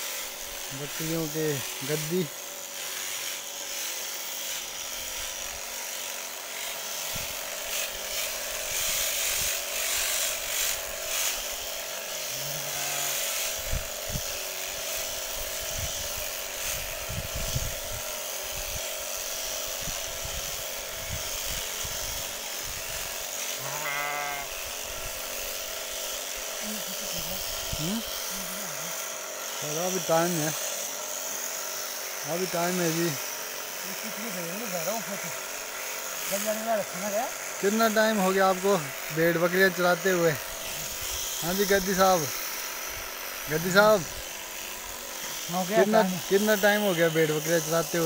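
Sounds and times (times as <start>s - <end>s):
electric clippers buzzing: 0.0s - 48.0s.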